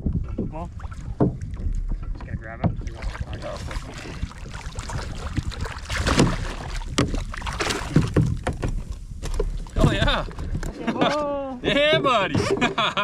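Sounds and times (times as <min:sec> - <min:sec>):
knocks and thuds against hull: 0:00.0 - 0:10.8, 0:11.8 - 0:13.0
wind and water wash: 0:00.0 - 0:13.0.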